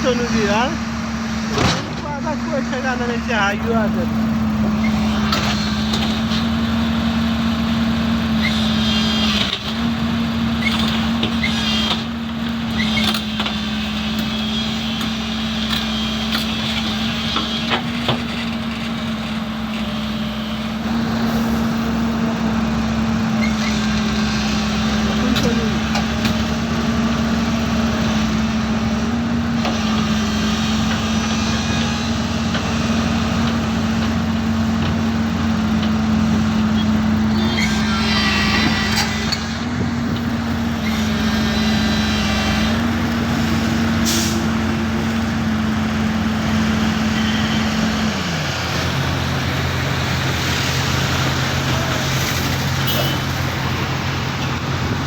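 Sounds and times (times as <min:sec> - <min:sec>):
diesel loader engine running: 0:00.0 - 0:55.0.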